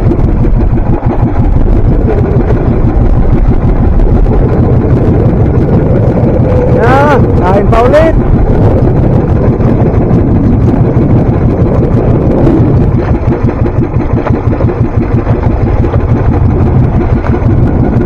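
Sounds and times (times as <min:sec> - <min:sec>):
boat engine pulsing: 0:00.0 - 0:18.0.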